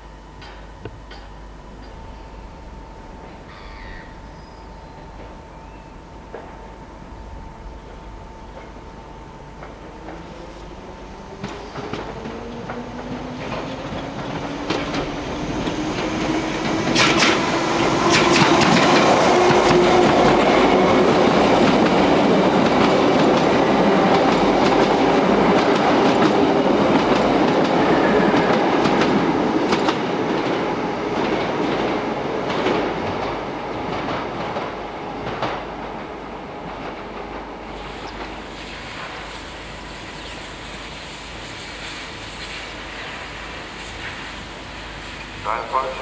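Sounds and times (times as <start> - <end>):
electric train passing: 0.0 - 46.0.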